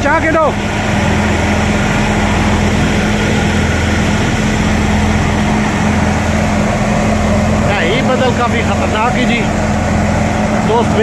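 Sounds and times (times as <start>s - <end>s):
tractor and thresher droning: 0.0s - 11.0s.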